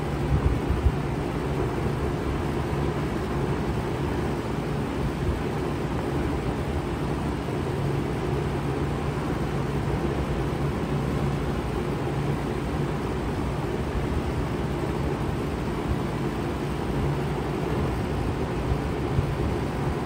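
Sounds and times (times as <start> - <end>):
fan rushing: 0.0 - 20.0.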